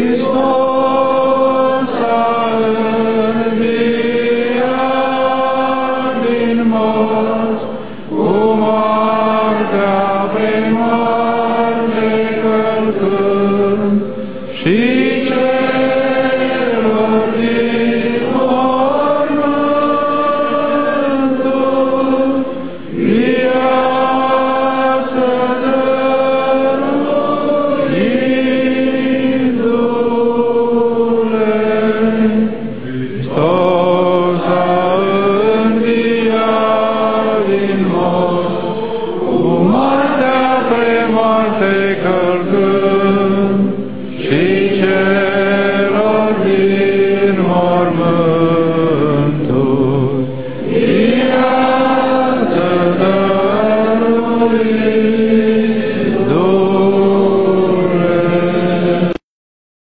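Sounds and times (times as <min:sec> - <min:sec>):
voices chanting: 0:00.0 - 0:59.2.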